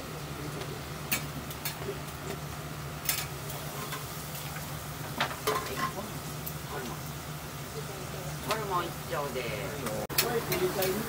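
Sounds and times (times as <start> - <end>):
faint sizzle on griddle: 0.0 - 11.0.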